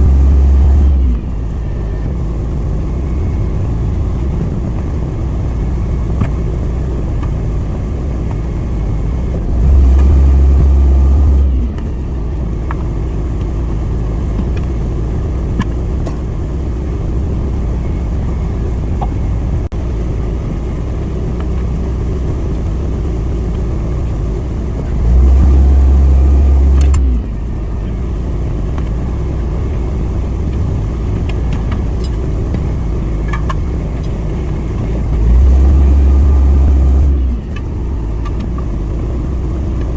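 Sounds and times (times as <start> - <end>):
motor running with low drone: 0.0 - 39.9.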